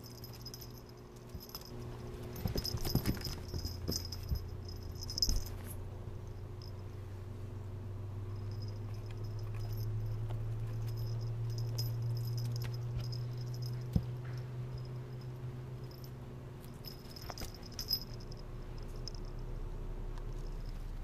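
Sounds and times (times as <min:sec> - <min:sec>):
collar bell jingling: 0:00.0 - 0:06.9, 0:08.3 - 0:19.5
steady low hum: 0:00.0 - 0:21.0.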